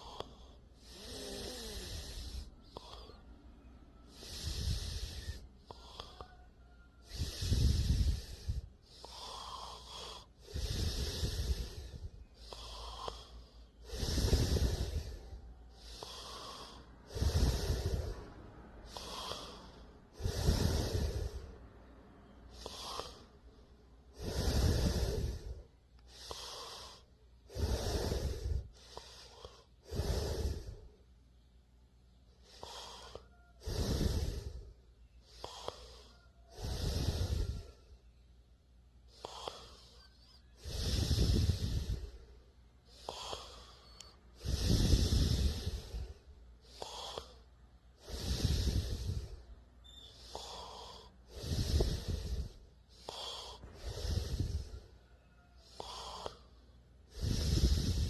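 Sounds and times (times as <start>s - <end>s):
person snoring: 0.0s - 31.0s, 32.4s - 38.1s, 39.1s - 58.0s.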